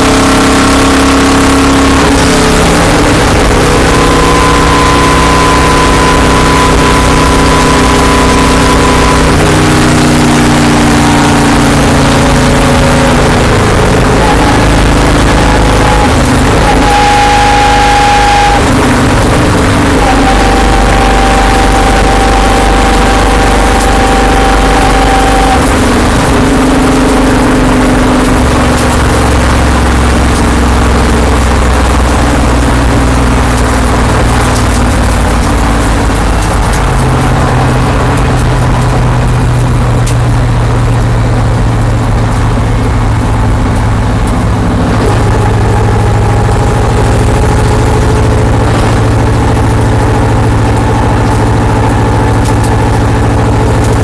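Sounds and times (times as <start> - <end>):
race car engine drone: 0.0 - 54.0.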